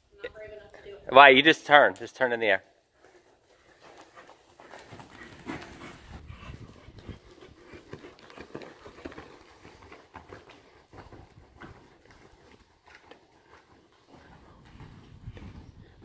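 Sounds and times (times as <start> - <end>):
muffled hoofbeats on sand: 3.0 - 16.0.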